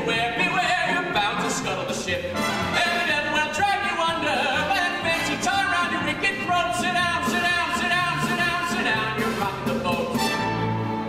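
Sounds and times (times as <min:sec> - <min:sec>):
man singing: 0:00.0 - 0:10.5
orchestral accompaniment: 0:00.0 - 0:11.0.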